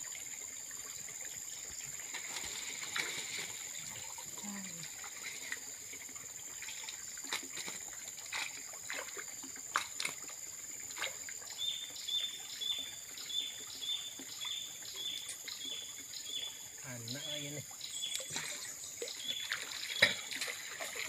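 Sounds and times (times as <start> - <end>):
water splashing and dripping: 0.0 - 21.0.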